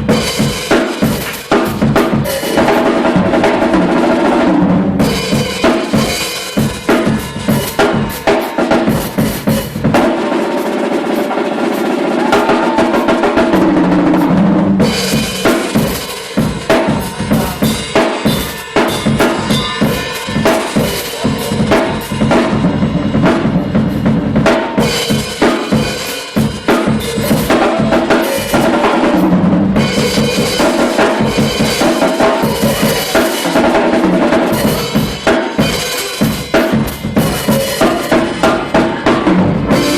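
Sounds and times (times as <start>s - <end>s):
bass drum and snare beat: 0.0s - 11.1s, 11.8s - 39.9s
band music: 0.0s - 39.9s.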